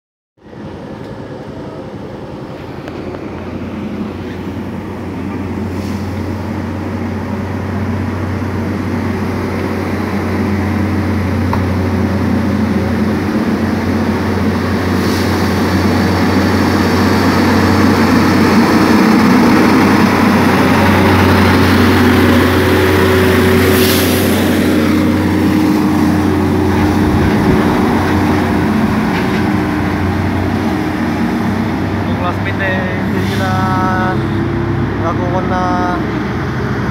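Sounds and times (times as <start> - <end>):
diesel trucks driving past: 0.4 - 36.9
road noise: 0.4 - 36.9.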